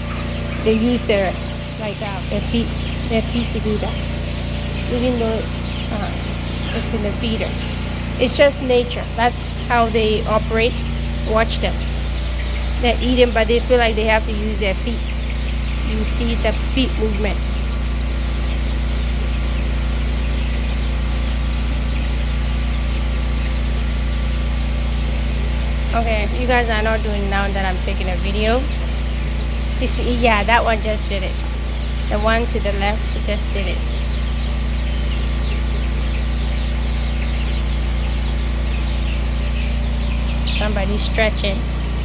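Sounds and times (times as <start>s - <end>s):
chicks peeping: 0.0s - 42.0s
low mechanical hum: 0.0s - 42.0s.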